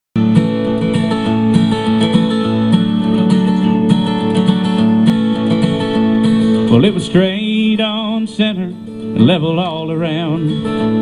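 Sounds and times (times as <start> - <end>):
acoustic guitar strumming chords: 0.2 - 11.0.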